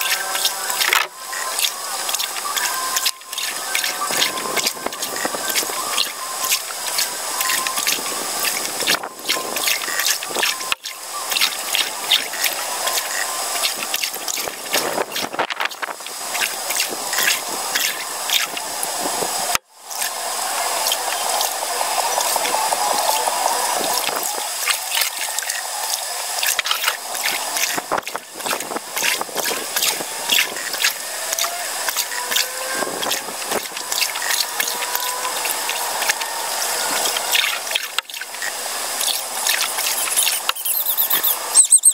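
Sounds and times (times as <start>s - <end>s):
paddle strokes through water: 0.0s - 41.9s
water splashing and dripping: 0.0s - 41.9s.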